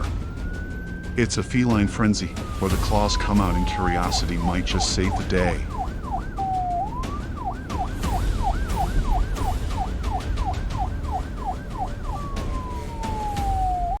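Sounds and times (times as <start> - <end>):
police siren: 0.0 - 14.0.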